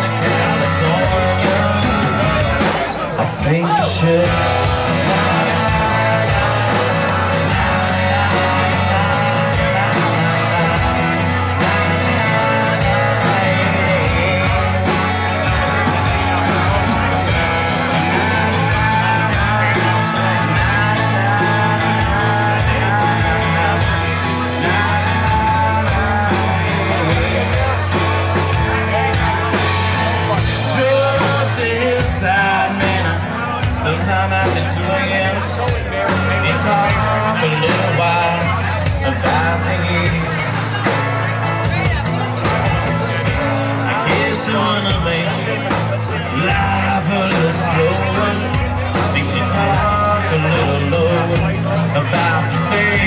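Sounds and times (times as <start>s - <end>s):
bass line: 0.0s - 53.0s
live rock band playing: 0.0s - 53.0s
wavering melodic lead: 0.0s - 53.0s.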